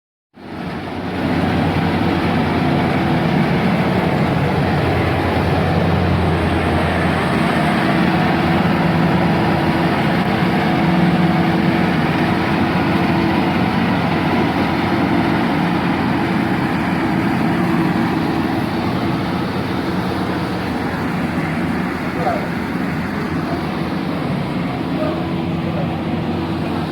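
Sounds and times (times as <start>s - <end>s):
combine harvester engine drone: 0.4s - 26.9s.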